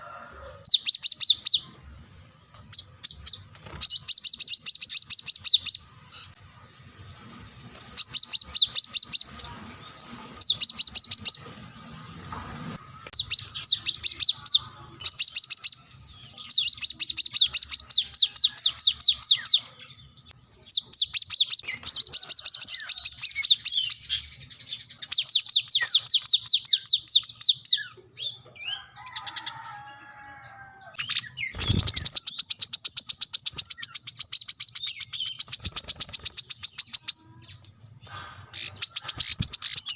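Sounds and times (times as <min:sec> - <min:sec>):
bird singing high chirping trills: 0:00.7 - 0:06.3, 0:08.0 - 0:09.6, 0:10.4 - 0:11.5, 0:13.0 - 0:37.6.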